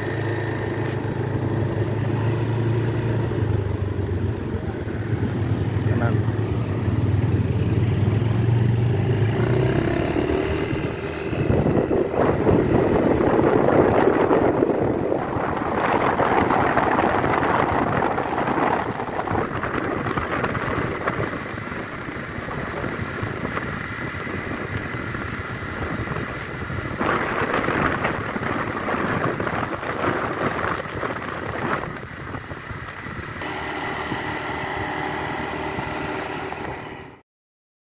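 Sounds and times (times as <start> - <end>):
scooter engine running: 0.0 - 37.2
wind rushing over microphone: 0.0 - 37.2.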